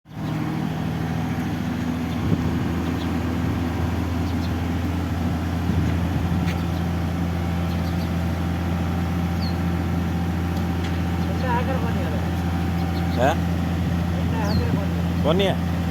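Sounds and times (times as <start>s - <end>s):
engine humming steadily: 0.1s - 15.9s.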